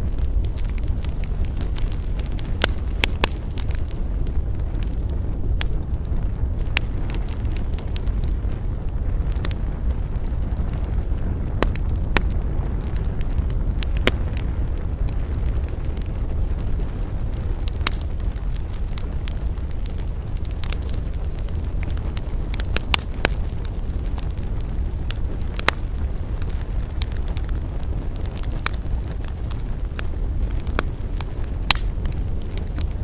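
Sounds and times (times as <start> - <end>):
campfire burning with crackles: 0.0 - 33.0.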